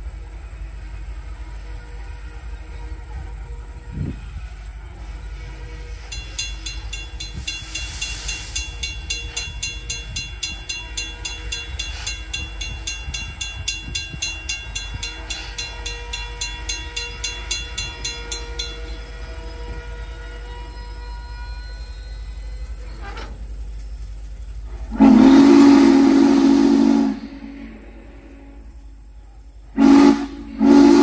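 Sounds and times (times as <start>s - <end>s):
steam hiss: 0.0s - 31.0s
train rolling on track: 0.0s - 31.0s.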